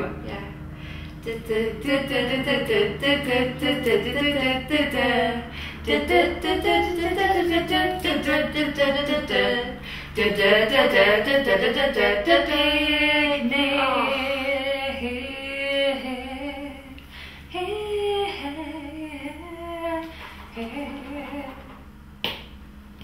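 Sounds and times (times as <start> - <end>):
women singing unaccompanied: 1.2 - 21.9.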